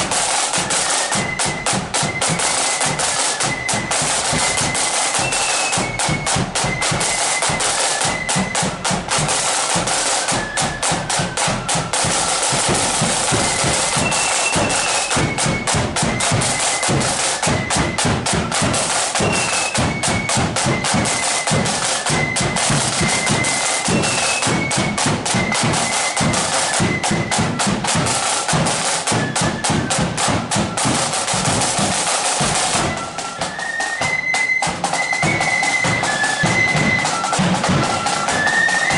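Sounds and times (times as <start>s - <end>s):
flutes playing a tune: 0.0s - 38.9s
snare drumming: 0.0s - 38.9s.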